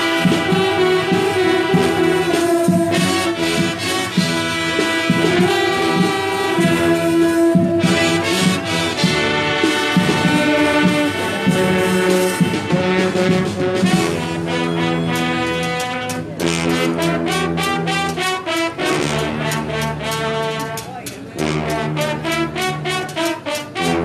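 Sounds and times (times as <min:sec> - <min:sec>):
brass band playing: 0:00.0 - 0:24.0
percussion beat: 0:00.0 - 0:24.0.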